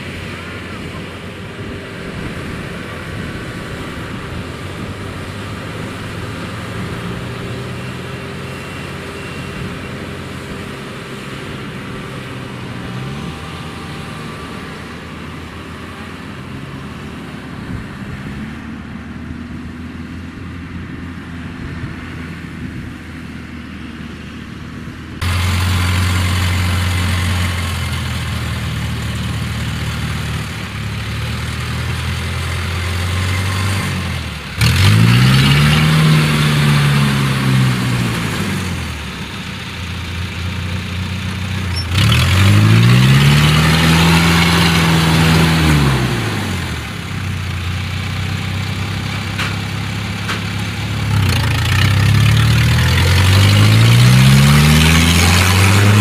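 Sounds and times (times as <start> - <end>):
small engine revving: 0.0 - 18.8, 25.2 - 56.0
combine harvester engine: 0.0 - 56.0.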